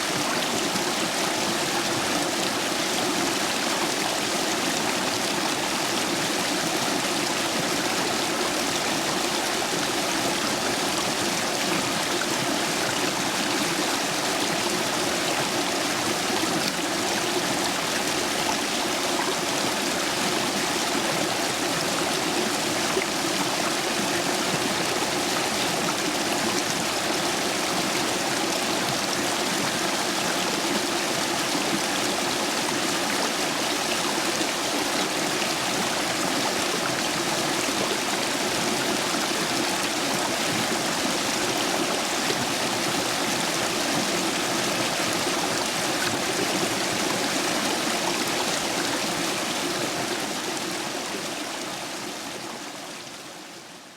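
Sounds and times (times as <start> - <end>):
stream water rushing over stones: 0.0 - 53.0.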